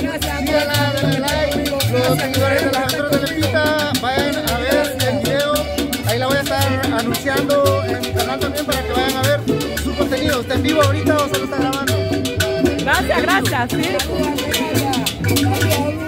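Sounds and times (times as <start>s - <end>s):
latin dance music: 0.0s - 16.0s.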